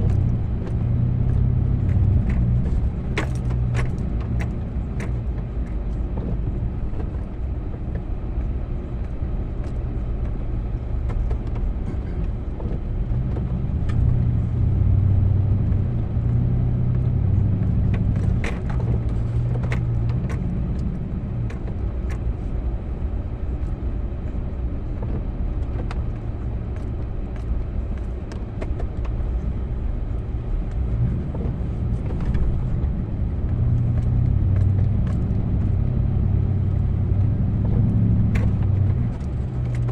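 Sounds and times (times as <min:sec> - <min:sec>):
sharp clicks and knocks: 0:00.0 - 0:10.4, 0:15.4 - 0:22.4, 0:25.0 - 0:39.9.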